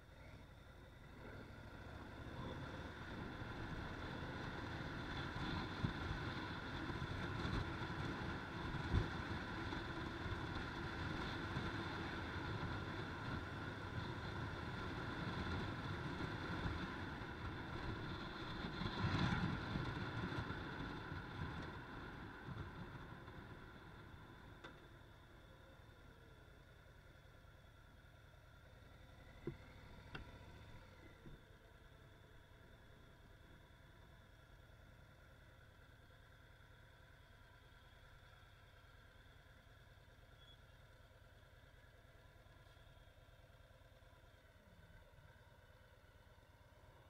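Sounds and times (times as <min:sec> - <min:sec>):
wind and road noise: 0:00.0 - 0:40.1.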